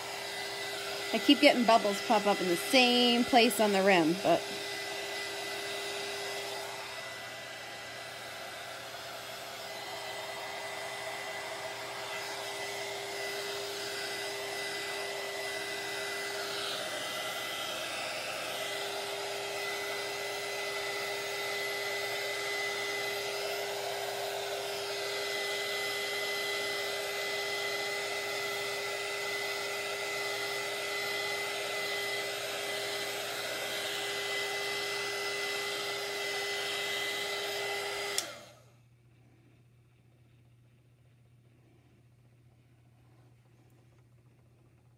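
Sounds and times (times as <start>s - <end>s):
heat gun fan whining: 0.0s - 39.0s.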